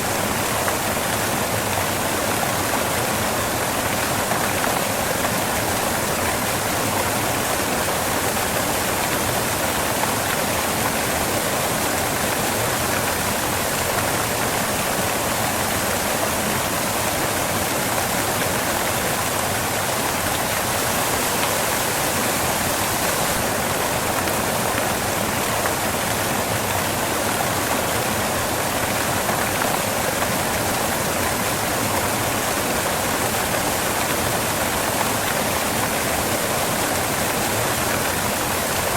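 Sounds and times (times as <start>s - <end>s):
waterfall crashing onto rocks: 0.0s - 38.9s.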